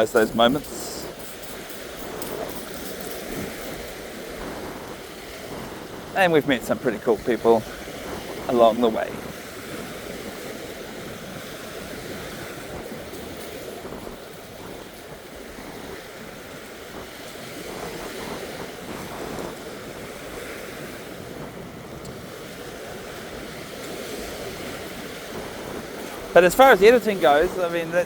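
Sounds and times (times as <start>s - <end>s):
waves washing onto beach: 0.0s - 28.0s
wind on microphone: 0.0s - 28.0s.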